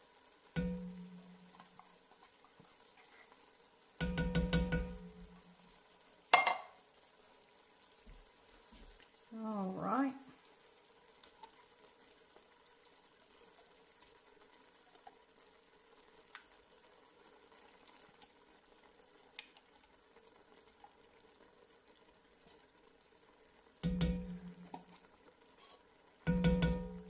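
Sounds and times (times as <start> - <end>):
faint sizzling in a pot: 0.0 - 27.0.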